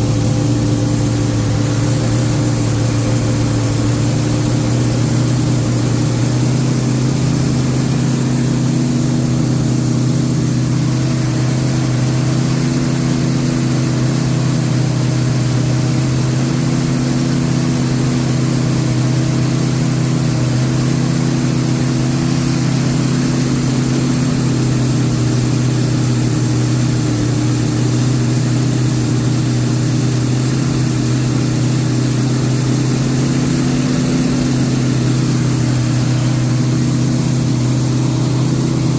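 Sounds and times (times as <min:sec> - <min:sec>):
car engine fast idling: 0:00.0 - 0:38.9.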